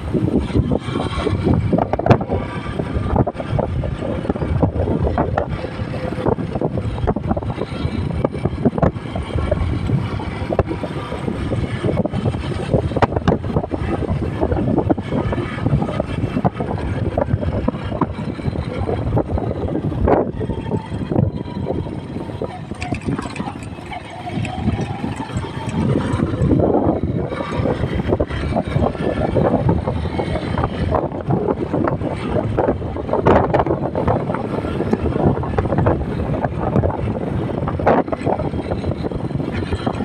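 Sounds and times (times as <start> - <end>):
motorcycle running: 0.0 - 40.0
wind buffeting microphone: 0.0 - 40.0.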